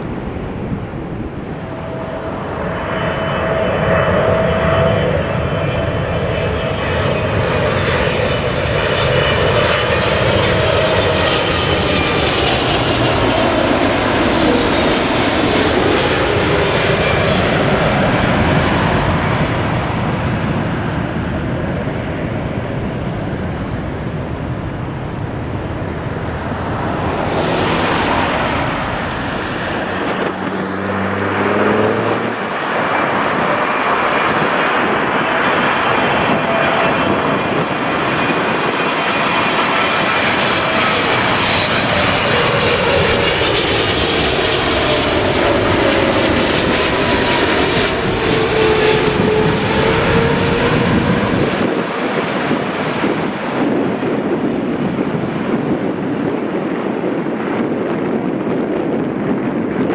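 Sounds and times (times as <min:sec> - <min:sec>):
jet airliner engines whining: 0:00.0 - 0:59.9.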